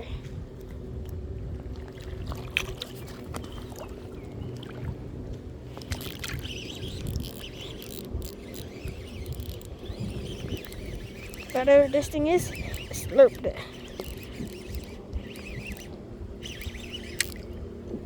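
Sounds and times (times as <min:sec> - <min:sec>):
water sloshing and lapping: 0:00.0 - 0:18.0.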